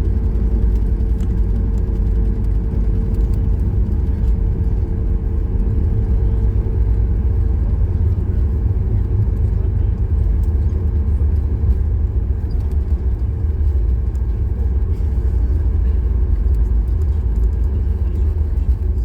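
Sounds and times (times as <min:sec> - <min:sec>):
airliner cabin low rumble: 0:00.0 - 0:19.0.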